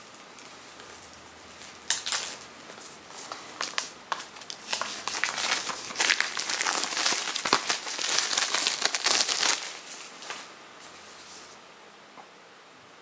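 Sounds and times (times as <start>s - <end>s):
plastic shrink wrap crinkling: 0.0s - 11.6s.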